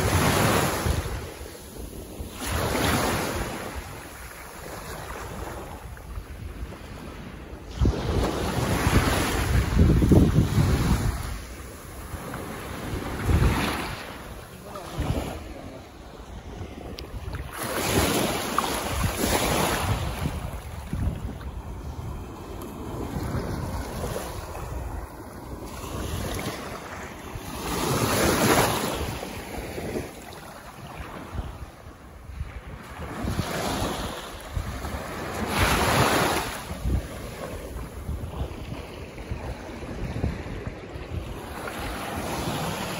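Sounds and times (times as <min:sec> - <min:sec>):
waves washing on sandy shore: 0:00.0 - 0:42.9
wind rumbling on microphone: 0:00.0 - 0:42.9.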